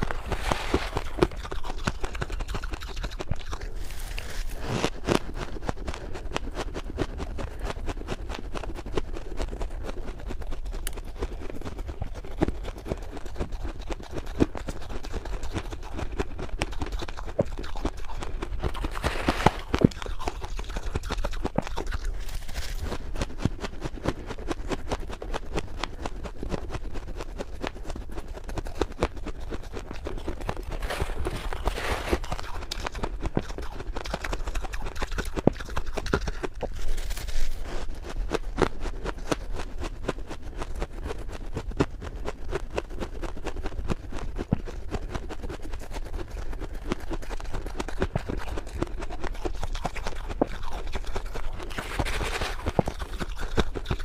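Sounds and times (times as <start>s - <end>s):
frost crunching being chewed: 0.0s - 54.0s.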